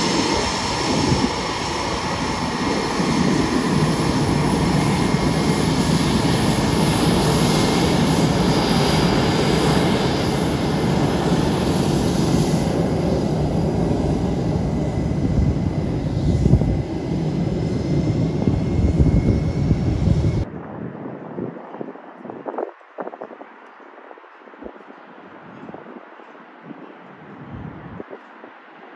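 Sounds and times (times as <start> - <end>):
jet engines taxiing with whine: 0.0 - 23.8.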